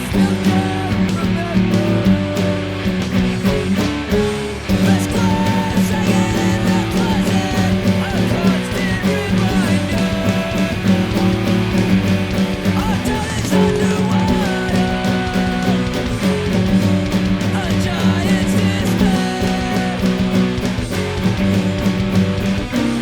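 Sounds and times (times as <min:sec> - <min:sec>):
person singing: 0:00.0 - 0:03.1, 0:04.2 - 0:22.9
acoustic guitar strumming: 0:00.0 - 0:23.0.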